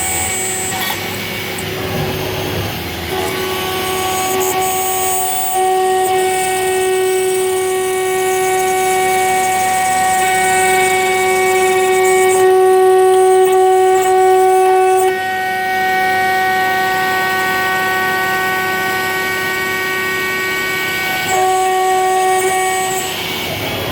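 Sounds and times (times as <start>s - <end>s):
router spindle high whine: 0.0s - 23.9s.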